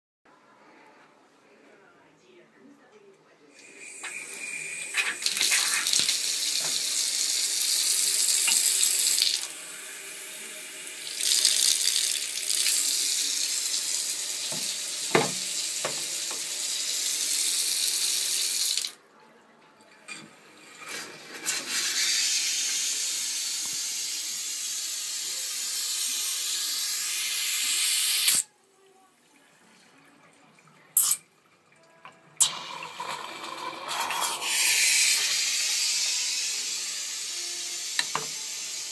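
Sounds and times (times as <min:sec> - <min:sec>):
tap running water: 0:03.6 - 0:19.0, 0:20.0 - 0:28.5, 0:29.4 - 0:38.9.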